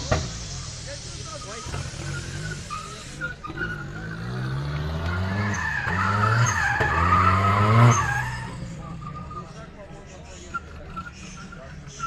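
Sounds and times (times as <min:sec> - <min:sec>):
car engine revving: 0:00.0 - 0:12.0
tyres squealing on asphalt: 0:00.0 - 0:12.0.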